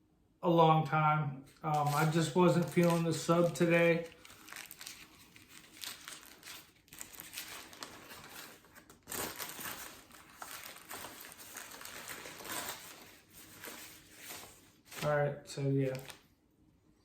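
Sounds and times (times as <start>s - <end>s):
paper wrapper crinkling: 1.6s - 16.3s.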